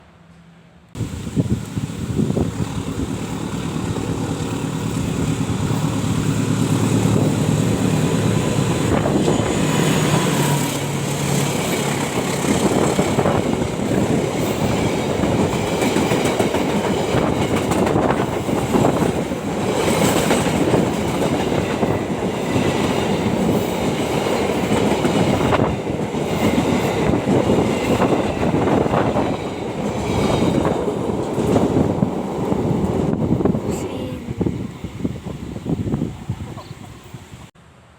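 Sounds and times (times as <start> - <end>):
diesel locomotive engine hum: 0.0 - 37.9
train wheels clattering on track: 1.6 - 33.6.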